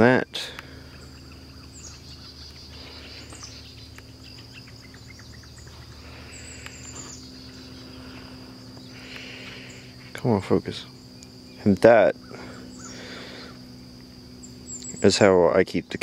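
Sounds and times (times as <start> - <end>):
high insect trill: 0.0 - 16.0
low hum: 0.0 - 16.0.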